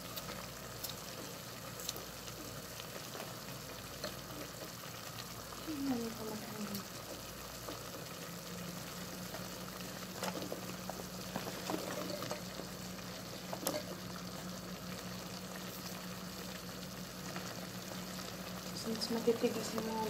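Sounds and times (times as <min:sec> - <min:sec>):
sauce simmering in a pot: 0:00.0 - 0:20.0.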